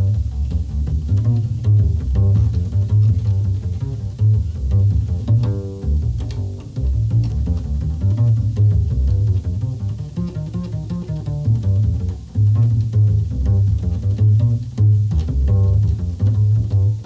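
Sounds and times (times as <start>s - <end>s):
double bass plucked notes: 0.0s - 17.0s.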